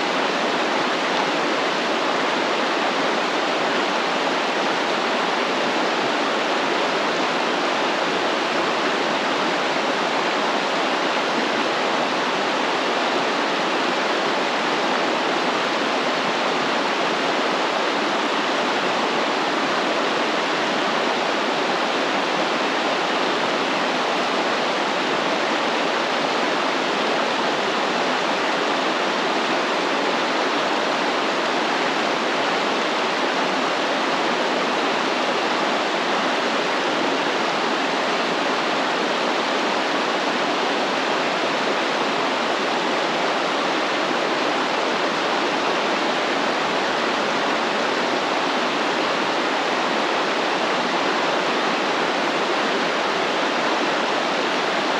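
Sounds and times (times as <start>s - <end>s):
stream water over rocks: 0.0s - 54.9s.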